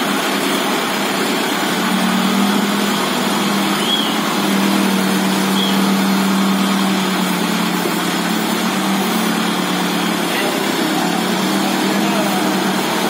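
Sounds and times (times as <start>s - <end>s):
diesel tractor engine droning: 0.0s - 13.0s.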